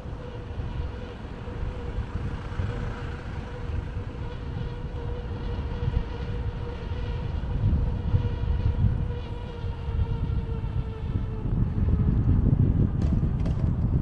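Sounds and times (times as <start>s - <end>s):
faint high whine: 0.0s - 13.3s
wind buffeting microphone: 0.0s - 14.0s.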